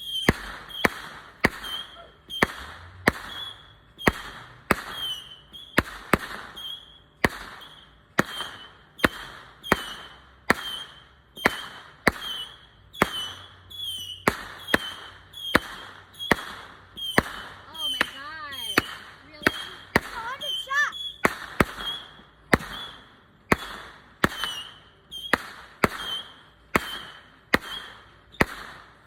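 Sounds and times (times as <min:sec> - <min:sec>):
firework whistle and crackle: 0:00.0 - 0:29.0
fireworks bangs: 0:00.0 - 0:29.0.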